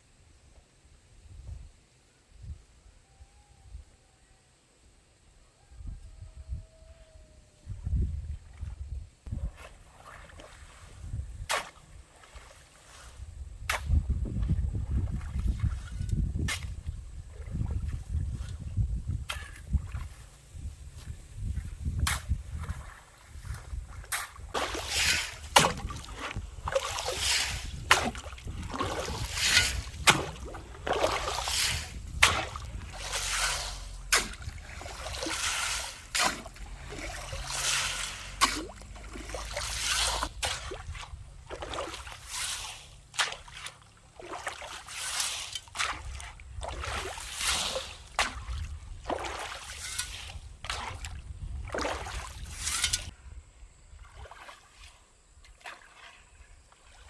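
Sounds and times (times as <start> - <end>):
splashing in shallow water: 8.2 - 53.1, 53.8 - 57.0.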